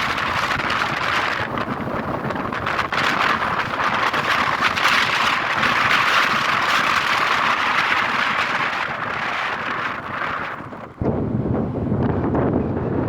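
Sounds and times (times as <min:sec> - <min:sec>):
road noise: 0:00.0 - 0:13.0
wind rushing over microphone: 0:00.0 - 0:13.0.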